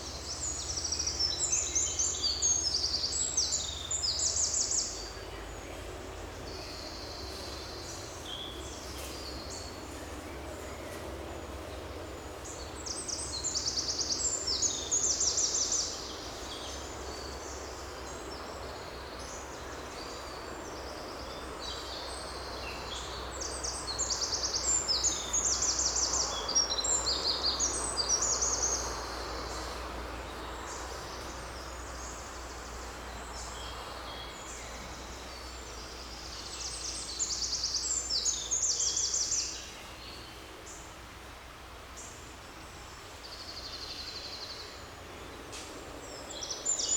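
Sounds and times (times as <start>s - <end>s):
low background noise: 0.0s - 46.9s.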